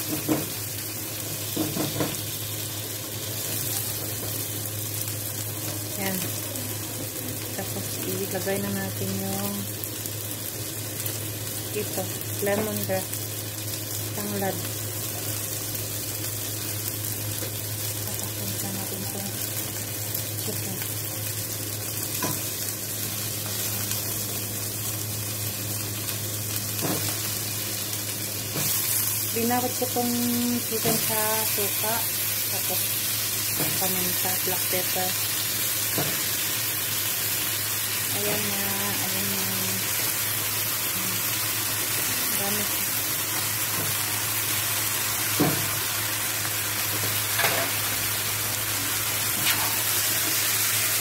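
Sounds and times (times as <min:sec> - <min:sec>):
vegetables sizzling in a pan: 0:00.0 - 0:51.0.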